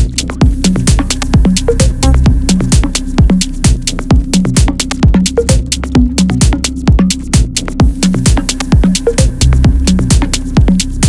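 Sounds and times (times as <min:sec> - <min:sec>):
held bass line: 0:00.0 - 0:11.0
hi-hats: 0:00.0 - 0:11.0
kick drum beat: 0:00.0 - 0:11.0.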